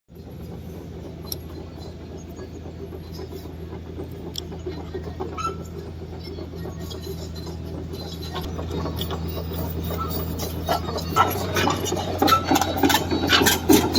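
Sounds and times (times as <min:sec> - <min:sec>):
diesel engine running: 0:00.1 - 0:13.9.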